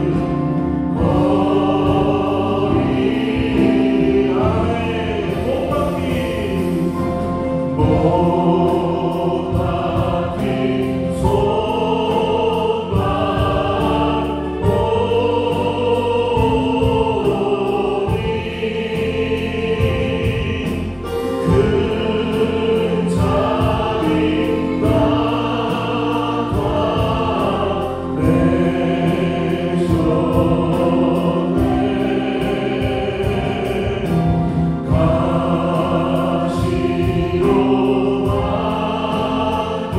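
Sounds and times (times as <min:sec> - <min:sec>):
bass guitar: 0:00.0 - 0:39.9
group of voices singing: 0:00.0 - 0:39.9
keyboard: 0:00.0 - 0:39.9
steady drum beat: 0:00.0 - 0:39.9.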